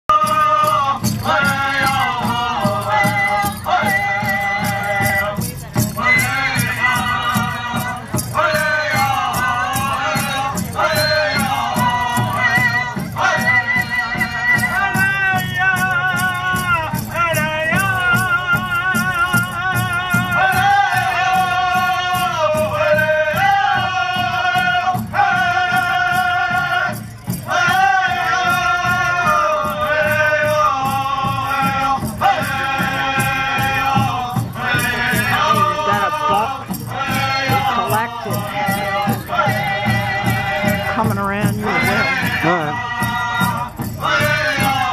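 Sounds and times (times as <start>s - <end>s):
group singing in high voices: 0.1s - 5.4s, 6.0s - 16.8s, 17.4s - 41.0s, 41.6s - 44.9s.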